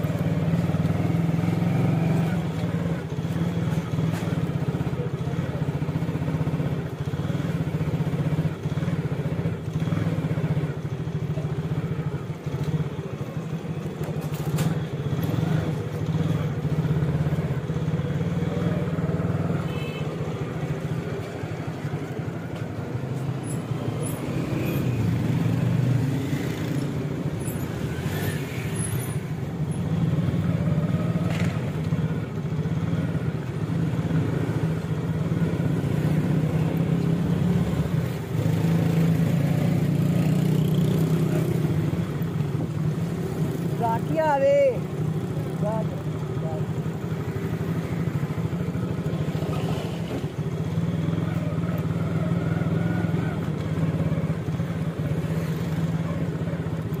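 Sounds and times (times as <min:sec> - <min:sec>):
cars and motorcycles passing: 0:00.0 - 0:57.0.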